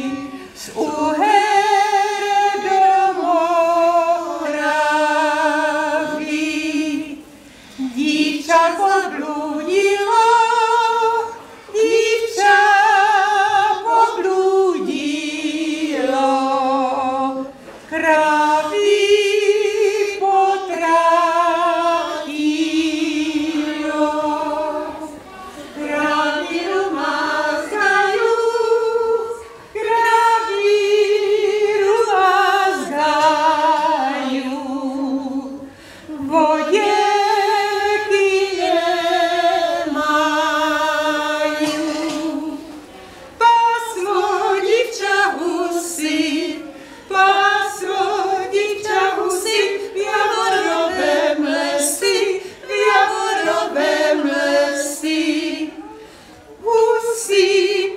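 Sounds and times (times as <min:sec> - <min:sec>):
women singing unaccompanied: 0:00.0 - 0:57.9.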